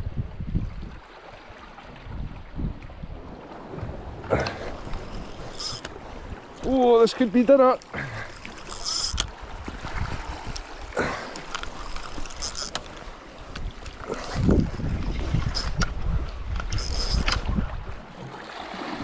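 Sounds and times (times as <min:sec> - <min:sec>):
wind buffeting microphone: 0:00.0 - 0:06.9, 0:08.0 - 0:18.2
water washing against rocks: 0:03.4 - 0:19.0.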